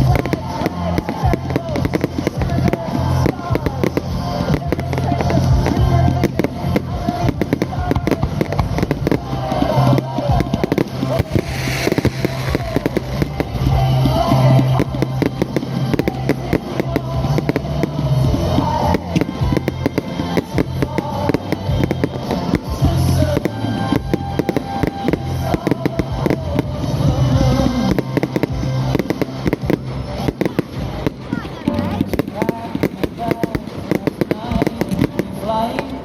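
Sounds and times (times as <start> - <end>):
fireworks crackling and banging: 0.0 - 36.0
music playing: 0.0 - 36.0.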